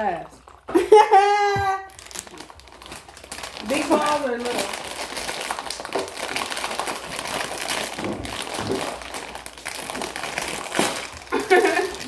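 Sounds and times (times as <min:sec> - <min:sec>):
plastic snack bag crinkling: 0:01.5 - 0:12.0.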